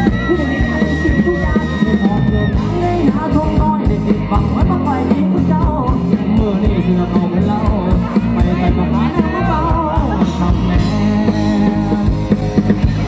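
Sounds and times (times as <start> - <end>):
live band playing loudly: 0.0 - 13.0
person singing: 0.0 - 13.0.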